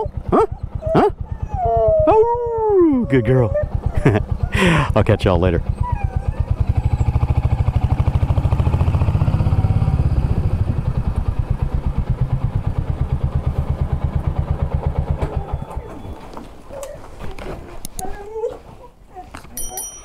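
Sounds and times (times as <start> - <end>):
motorcycle engine running: 0.0 - 16.4.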